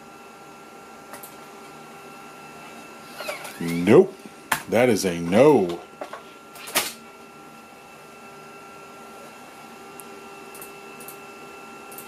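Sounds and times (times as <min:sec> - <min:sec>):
floppy drive whirring: 0:00.0 - 0:12.0.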